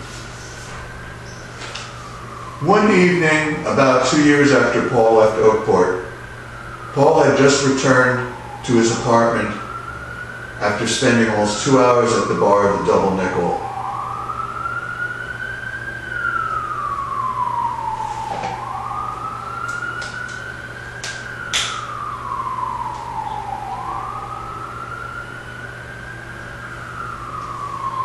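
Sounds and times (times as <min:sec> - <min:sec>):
emergency vehicle siren wailing: 0:00.0 - 0:28.0.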